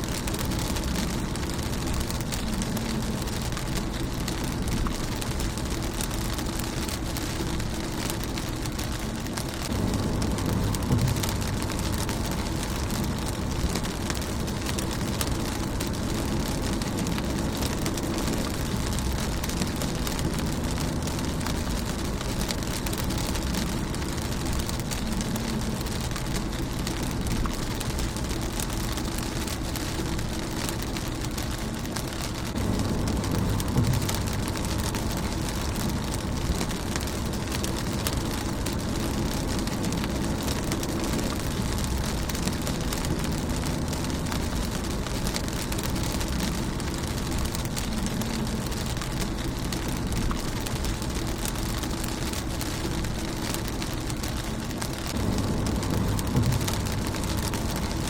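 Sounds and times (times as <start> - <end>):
low rumble: 0.0 - 58.0
rain on car windshield: 0.0 - 58.0.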